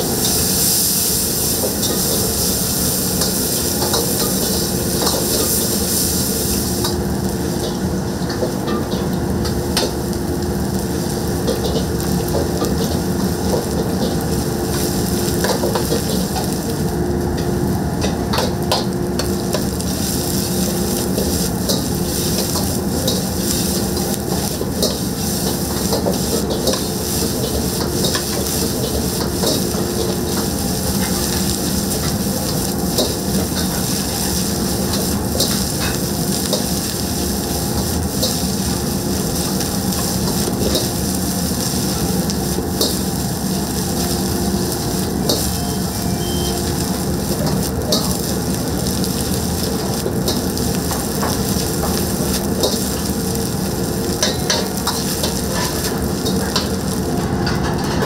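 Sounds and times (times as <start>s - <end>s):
rice sizzling in a wok: 0.0s - 58.0s.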